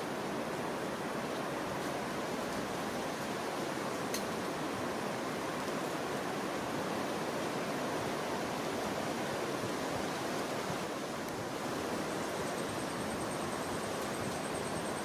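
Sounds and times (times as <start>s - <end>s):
rushing rainforest ambience: 0.0s - 15.0s.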